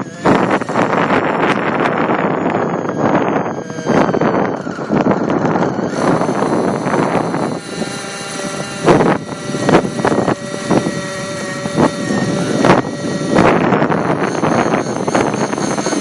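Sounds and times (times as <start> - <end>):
model helicopter engine whine: 0.0 - 16.0
wind buffeting microphone: 0.0 - 16.0.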